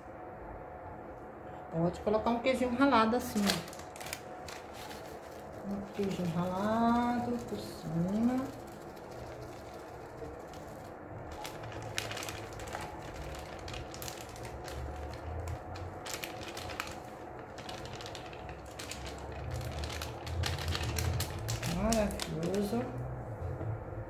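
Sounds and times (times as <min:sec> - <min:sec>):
plastic packet crinkling: 0:03.3 - 0:22.9.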